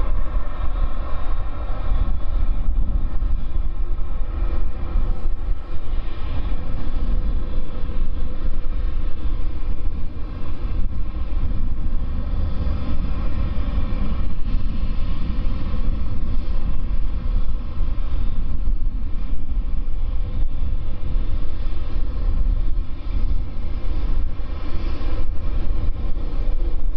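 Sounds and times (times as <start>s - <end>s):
jet engines at taxi power: 0.0s - 26.9s.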